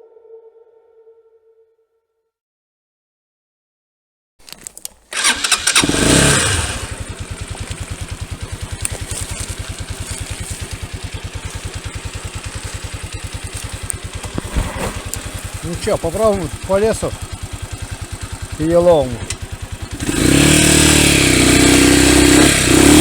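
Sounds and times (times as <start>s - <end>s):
motorbike engine starting and idling: 4.4s - 23.0s.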